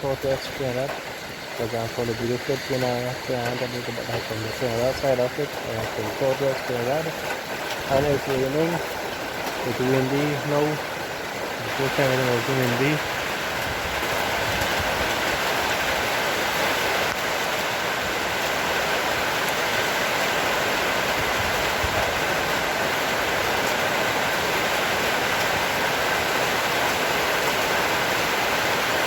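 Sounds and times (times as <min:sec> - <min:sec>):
heavy rain pouring: 0:00.0 - 0:29.0
wind: 0:00.0 - 0:29.0.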